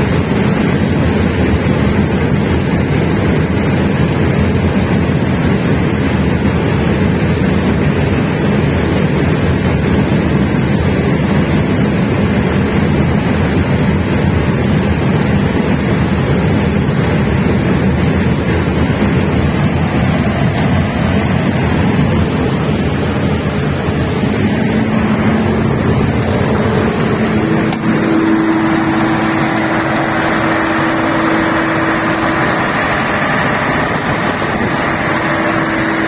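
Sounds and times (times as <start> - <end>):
diesel generator rumbling: 0.0 - 36.0
high whine: 0.0 - 36.0.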